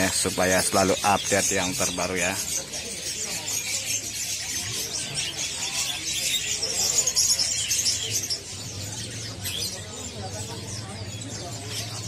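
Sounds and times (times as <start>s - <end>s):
songbirds chirping and calling: 0.0s - 12.0s.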